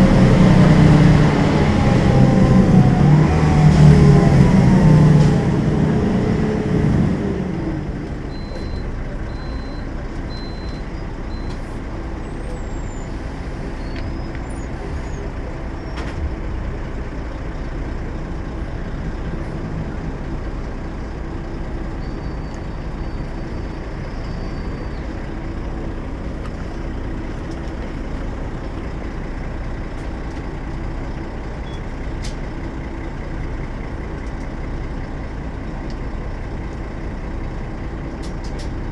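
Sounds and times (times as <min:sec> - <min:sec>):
diesel bus engine running: 0:00.0 - 0:38.9.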